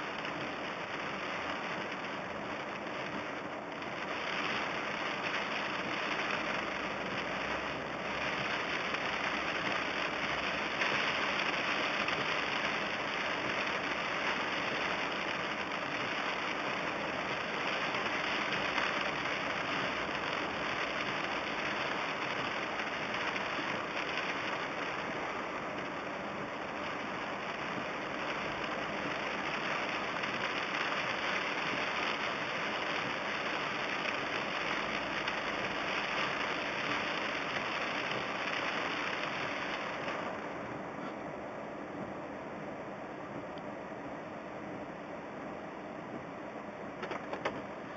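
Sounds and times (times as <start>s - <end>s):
heavy rain on car roof: 0.0s - 47.9s.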